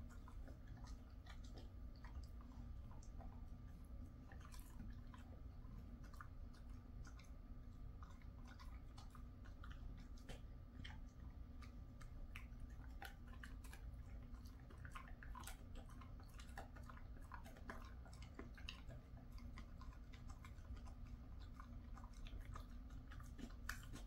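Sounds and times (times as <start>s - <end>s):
dog chewing jerky: 0.0s - 24.0s.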